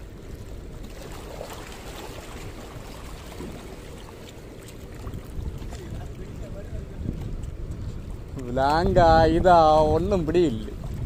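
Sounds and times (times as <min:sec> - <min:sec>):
small waves lapping against rocks: 0:00.0 - 0:11.0.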